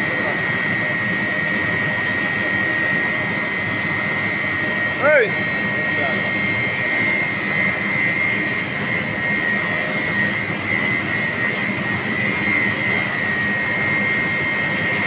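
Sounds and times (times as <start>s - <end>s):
high whine: 0.0s - 15.0s
oil expeller machine drone: 0.0s - 15.0s.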